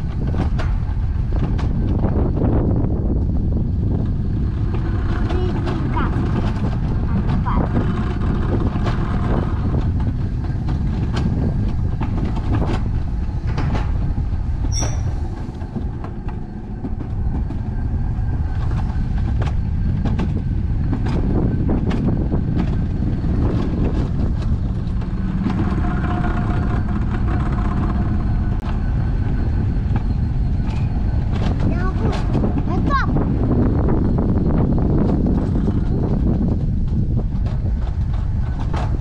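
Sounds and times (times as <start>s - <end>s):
wheels rumbling on rails: 0.0s - 39.0s
whining tone: 0.0s - 39.0s.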